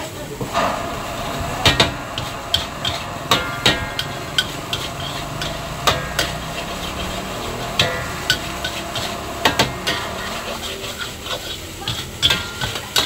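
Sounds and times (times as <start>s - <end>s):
metal spatula clanking in a wok: 0.5s - 13.0s.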